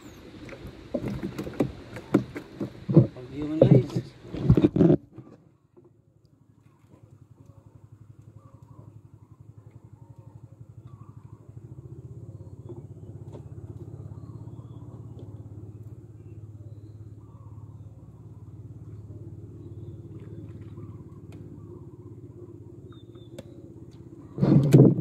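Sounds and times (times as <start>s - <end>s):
boat engine puttering: 0.3s - 5.1s, 7.0s - 25.0s.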